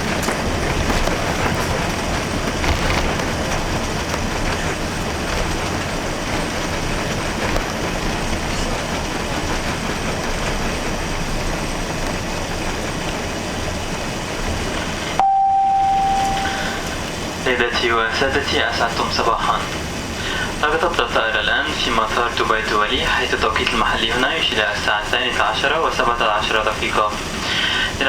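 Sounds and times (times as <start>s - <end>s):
rumble of wheels and engines: 0.0s - 28.0s.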